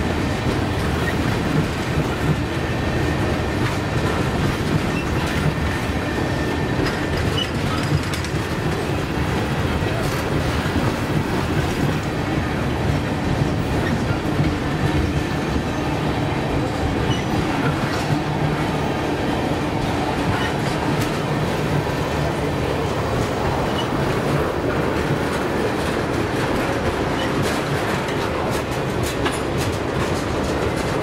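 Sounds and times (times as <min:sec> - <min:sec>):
rail clicks: 0:00.0 - 0:31.0
train wheels rumbling on rail: 0:00.0 - 0:31.0.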